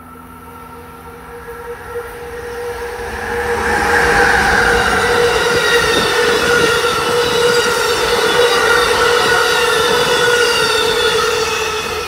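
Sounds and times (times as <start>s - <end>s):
steady whine: 0.0s - 12.0s
train wheels rumbling on rails: 0.0s - 12.0s.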